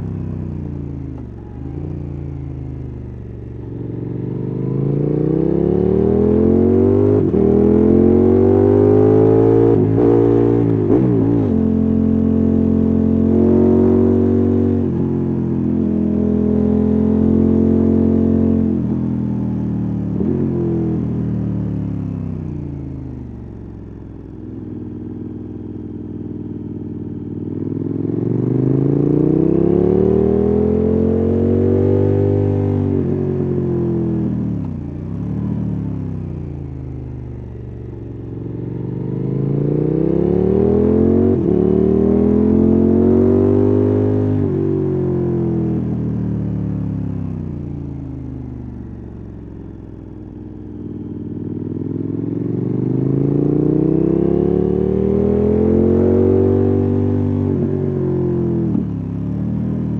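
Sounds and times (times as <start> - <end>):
motorcycle engine revving: 0.0 - 21.3, 25.9 - 46.2, 50.2 - 59.9.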